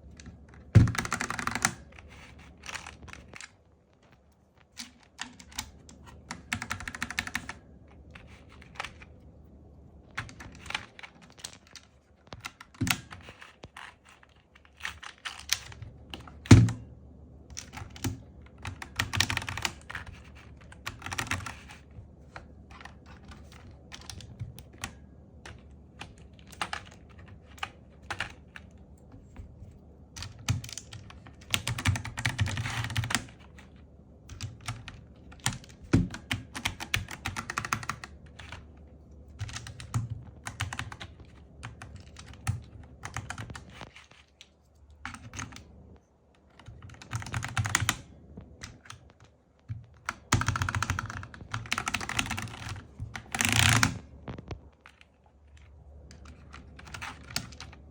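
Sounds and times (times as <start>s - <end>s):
mechanical keyboard typing: 0.1s - 9.1s, 10.0s - 16.8s, 17.5s - 28.8s, 30.2s - 44.3s, 45.0s - 45.7s, 46.4s - 57.9s.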